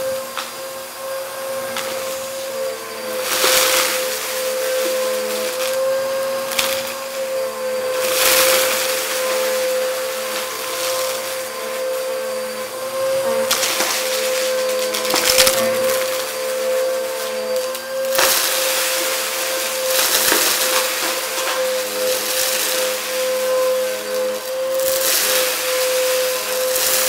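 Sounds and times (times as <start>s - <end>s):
vacuum cleaner motor whine: 0.0s - 27.0s
debris crackling in vacuum: 0.3s - 27.0s.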